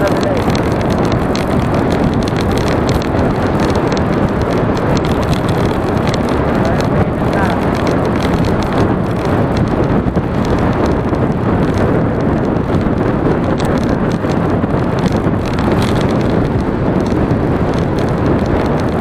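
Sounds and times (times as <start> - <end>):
road and vehicle noise: 0.0 - 19.0
wind buffeting microphone: 0.0 - 19.0.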